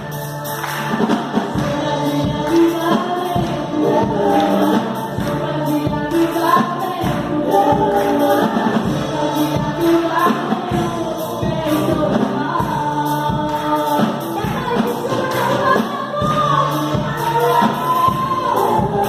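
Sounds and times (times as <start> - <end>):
band with steady beat: 0.0 - 19.0
gospel singing with choir: 0.0 - 19.0.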